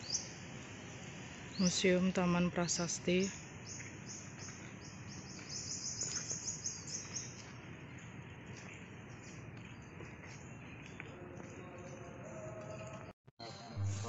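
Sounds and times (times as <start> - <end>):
faint background chirping: 0.0 - 13.8.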